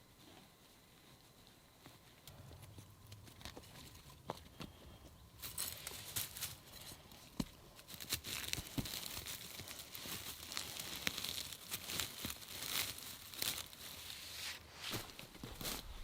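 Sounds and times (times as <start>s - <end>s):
crinkling rustling handling noise: 3.2s - 16.0s.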